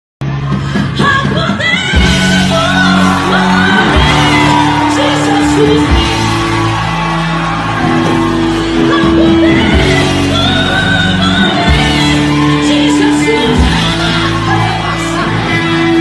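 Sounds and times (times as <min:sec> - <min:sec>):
band playing: 0:00.2 - 0:16.0.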